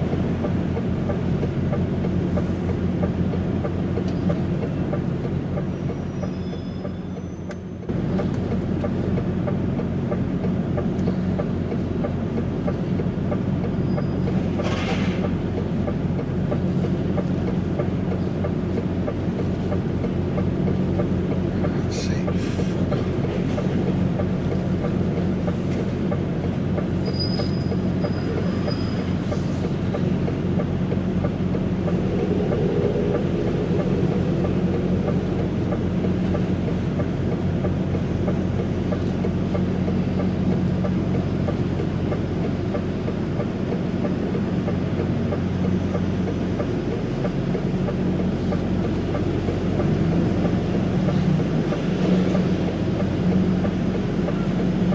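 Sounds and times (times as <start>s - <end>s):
truck diesel engine driving: 0.0s - 54.9s.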